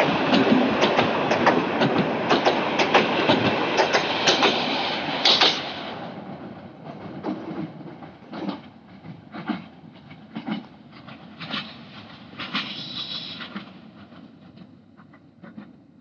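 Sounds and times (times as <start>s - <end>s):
train wheels clacking over rail joints: 0.0s - 5.8s, 6.9s - 15.8s
train rumble: 0.0s - 16.0s.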